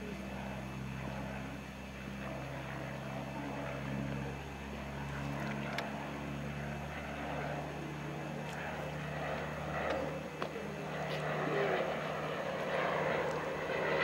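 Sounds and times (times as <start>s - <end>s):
propeller aircraft engine humming: 0.0s - 14.0s.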